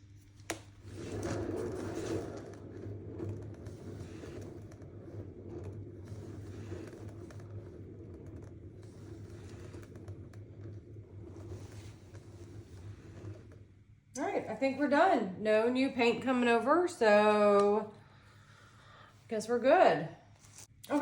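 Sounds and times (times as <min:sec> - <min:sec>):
paint spinner humming and rattling: 0:00.0 - 0:19.6.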